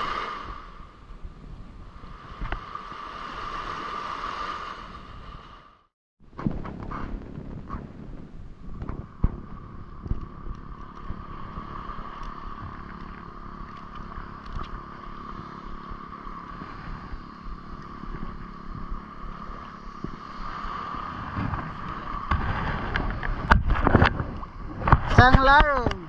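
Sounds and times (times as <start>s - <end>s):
wind rumble: 0.0s - 26.0s.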